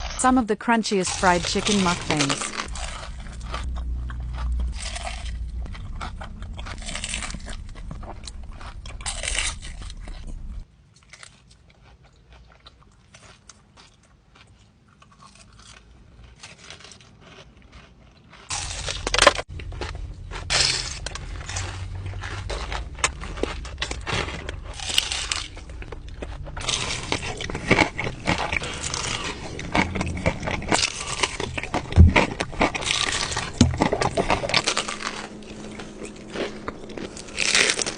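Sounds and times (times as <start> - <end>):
crunchy fried chicken chewing: 1.0 - 37.9.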